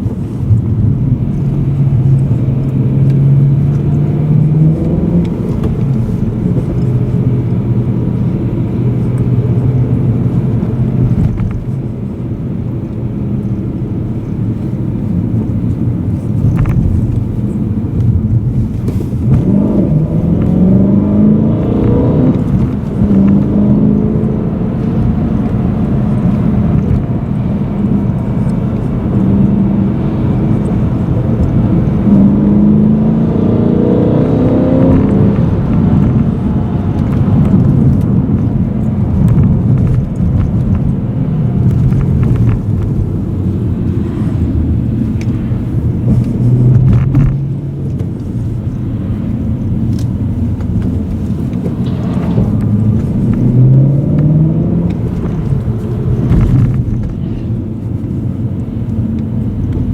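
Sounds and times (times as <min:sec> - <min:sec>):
car engine from inside cabin: 0:00.0 - 0:59.9.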